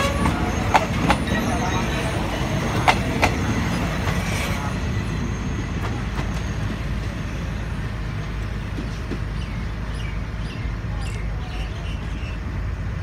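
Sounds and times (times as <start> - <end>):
train carriages rumbling: 0.0 - 13.0.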